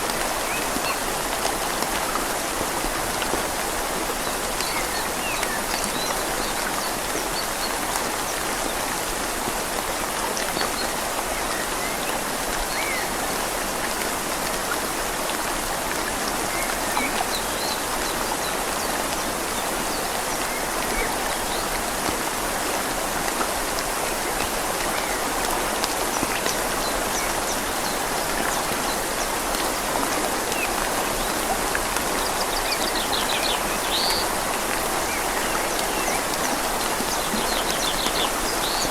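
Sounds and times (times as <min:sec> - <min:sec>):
flowing river: 0:00.0 - 0:38.9
rain falling on leaves: 0:00.0 - 0:38.9.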